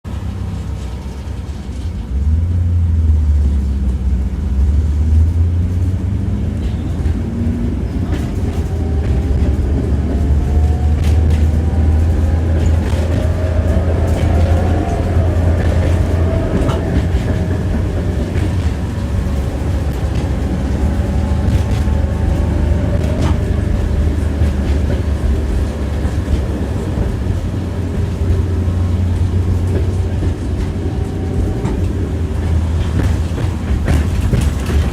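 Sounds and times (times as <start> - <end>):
tram rumbling: 0.0 - 34.9
wheels clattering on rails: 0.1 - 34.9.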